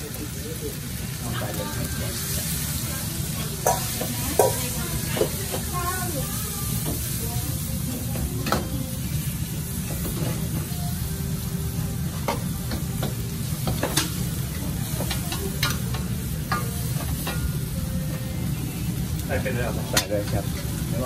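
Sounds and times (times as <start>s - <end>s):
food sizzling: 0.0s - 21.0s
gas burner roaring: 0.0s - 21.0s.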